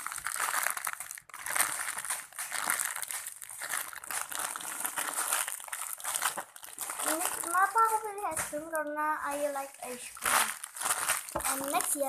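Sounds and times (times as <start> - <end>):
squishy toy crinkling: 0.0 - 12.0.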